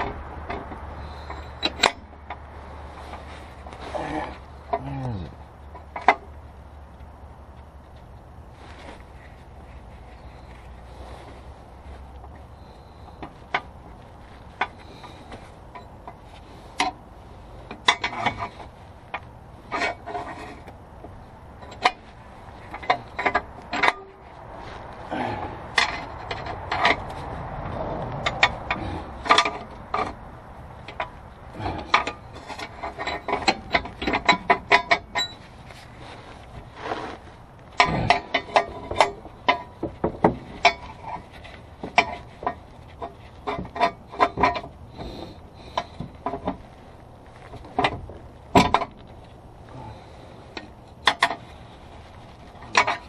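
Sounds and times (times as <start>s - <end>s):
rubbing and scraping: 0.0s - 6.6s, 7.5s - 53.0s.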